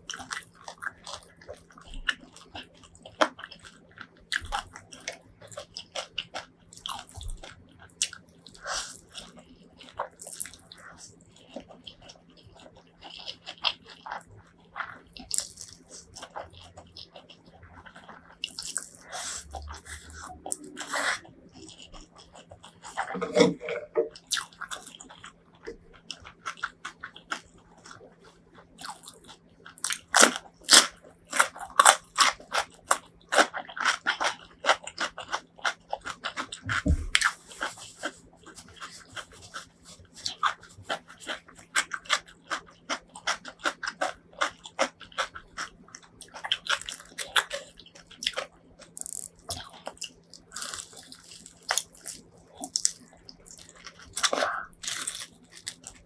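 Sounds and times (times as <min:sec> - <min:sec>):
crunching and chewing: 0:00.0 - 0:56.0
faint steady hum: 0:00.0 - 0:56.0.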